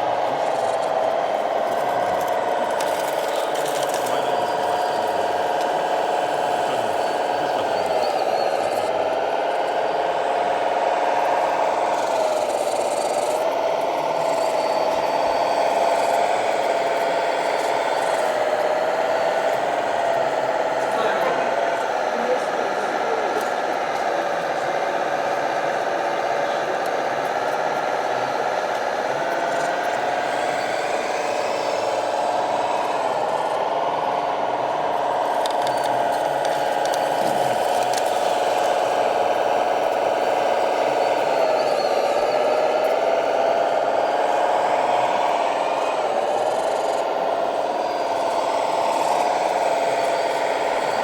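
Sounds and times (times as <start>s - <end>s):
toy electric motor whining: 0.0s - 51.0s.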